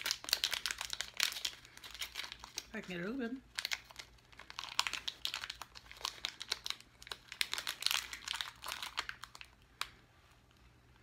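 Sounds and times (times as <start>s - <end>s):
candy wrapper crinkling: 0.0s - 10.0s.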